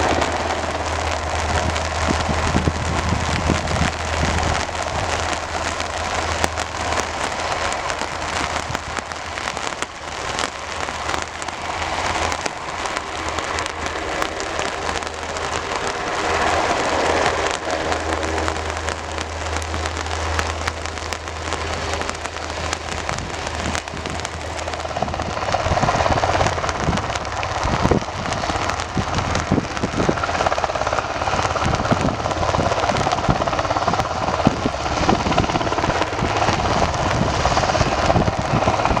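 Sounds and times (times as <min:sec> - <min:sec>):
rain falling: 0:00.0 - 0:39.0
steady low hum: 0:00.0 - 0:39.0.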